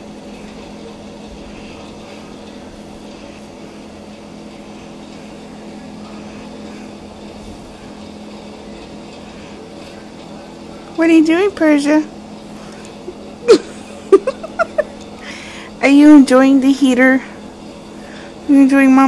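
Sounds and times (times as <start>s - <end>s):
space heater fan whirring: 0.0s - 19.0s.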